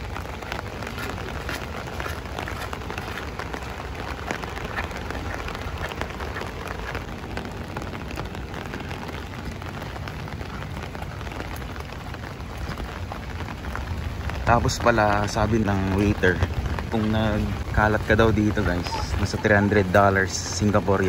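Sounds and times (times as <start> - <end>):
heavy rain falling: 0.0 - 21.0
raindrop hits close by: 0.0 - 21.0.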